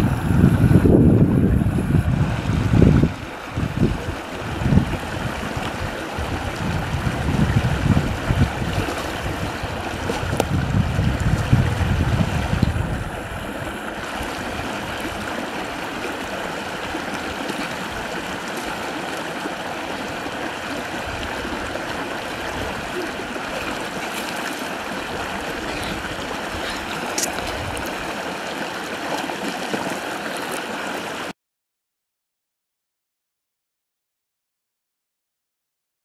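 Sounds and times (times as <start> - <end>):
river flowing over rock: 2.4 - 31.3.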